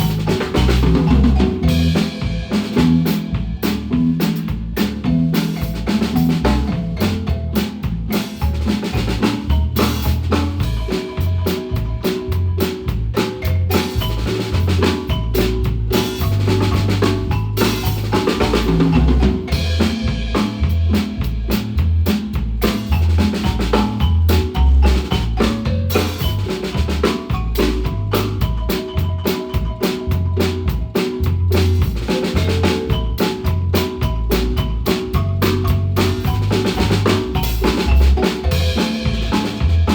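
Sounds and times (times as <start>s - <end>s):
marimba playing: 0.0s - 39.9s
snare and bass drum beat: 0.0s - 39.9s.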